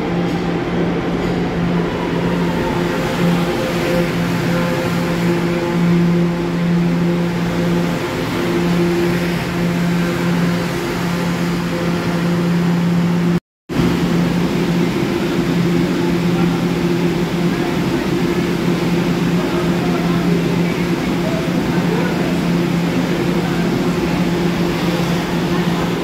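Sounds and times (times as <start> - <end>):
subway train electrical hum: 0.0 - 26.0.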